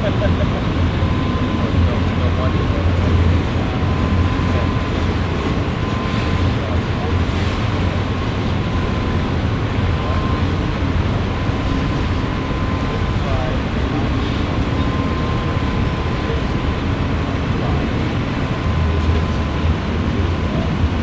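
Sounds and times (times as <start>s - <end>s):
faint high whine: 0.0s - 21.0s
steel wheels rumbling on rail: 0.0s - 21.0s.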